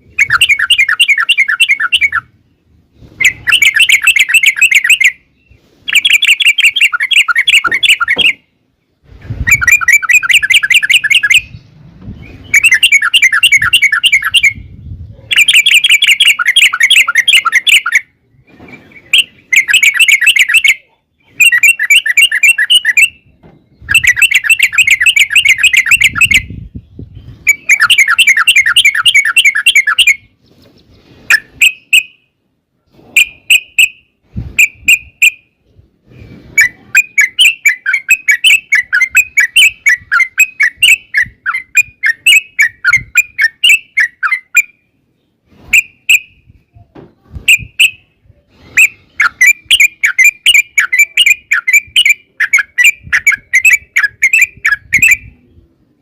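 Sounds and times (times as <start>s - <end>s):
bird singing rapid chattering notes: 0.0s - 32.2s, 36.6s - 46.4s, 48.8s - 55.4s.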